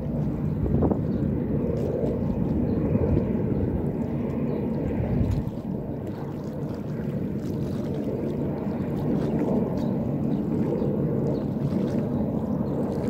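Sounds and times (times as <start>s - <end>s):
boat engine low rumble: 0.0s - 13.0s.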